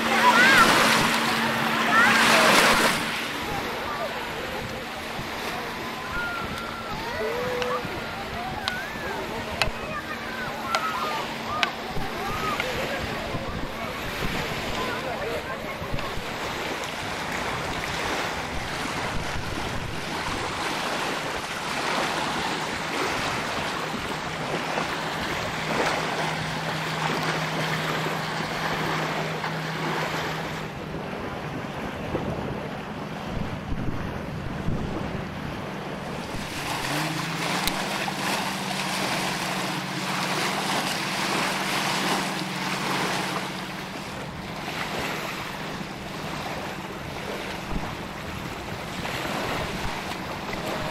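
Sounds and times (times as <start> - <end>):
motorboat engine hum: 0.0 - 50.9
rushing water: 0.0 - 50.9
wind buffeting microphone: 0.0 - 50.9.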